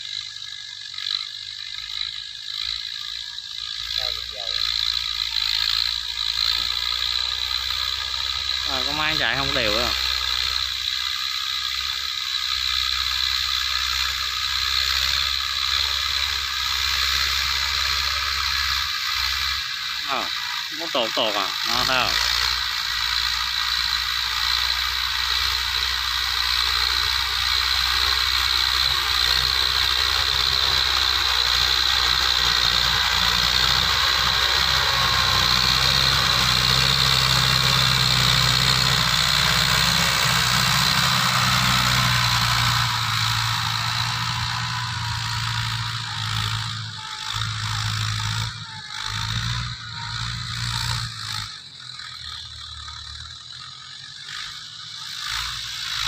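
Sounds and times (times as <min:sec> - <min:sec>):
tractor diesel engine under load: 0:00.0 - 0:56.0
rotary tiller churning soil: 0:03.9 - 0:56.0.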